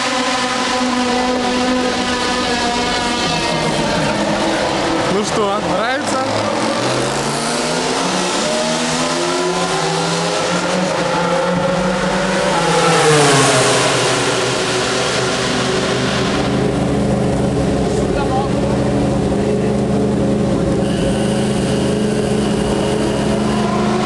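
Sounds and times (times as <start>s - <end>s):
racing motorcycle engine revving: 0.0s - 24.0s.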